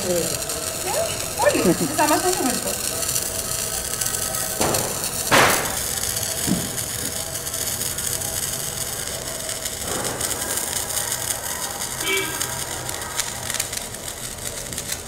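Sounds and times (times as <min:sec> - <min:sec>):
sharp cracks: 0:00.0 - 0:15.0
sparkler hissing: 0:00.0 - 0:15.0.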